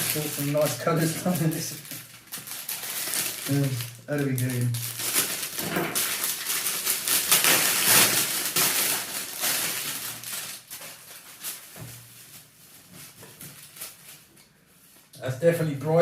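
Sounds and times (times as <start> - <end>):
packaging rustling and crinkling: 0.0 - 15.1.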